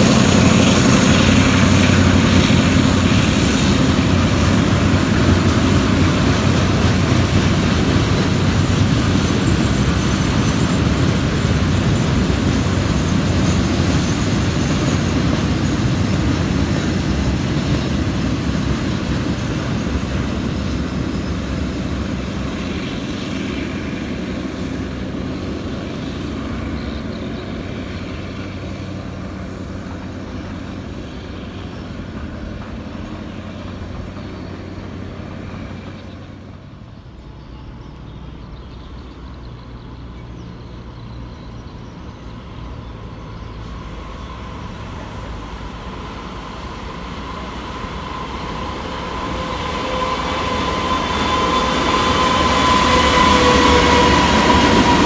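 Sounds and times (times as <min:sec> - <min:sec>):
freight wagons rolling on rails: 0:00.0 - 0:55.0.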